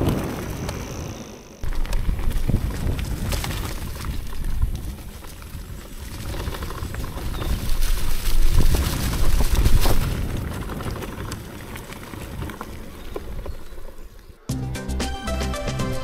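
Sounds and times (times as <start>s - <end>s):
bike rattling: 0.0s - 14.4s
bike tyres on dirt trail: 0.0s - 14.5s.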